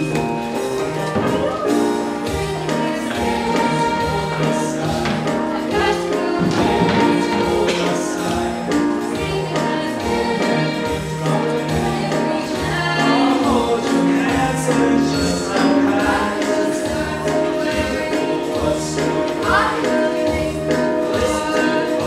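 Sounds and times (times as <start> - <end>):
choir singing with accompaniment: 0.0 - 22.0.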